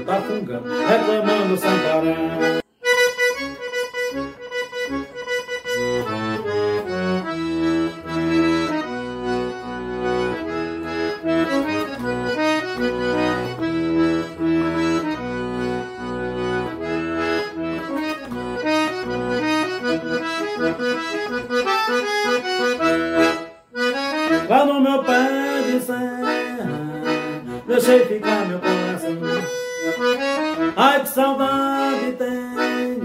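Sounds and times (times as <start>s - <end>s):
accordion playing a melody: 0.0s - 33.0s.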